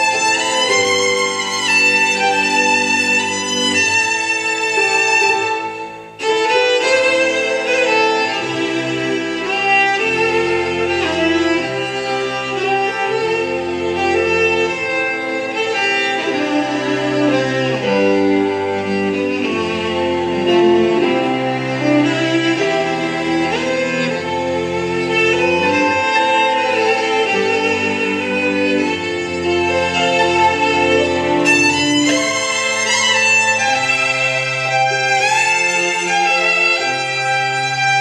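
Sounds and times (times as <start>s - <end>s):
fiddle melody: 0.0s - 38.0s
low bowed bass notes: 0.0s - 38.0s
string ensemble accompaniment: 0.0s - 38.0s.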